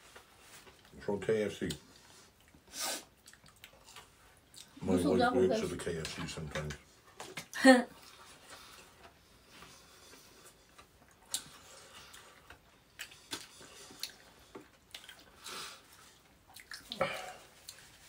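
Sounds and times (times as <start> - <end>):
quiet chewing: 1.6 - 4.8, 6.0 - 18.0.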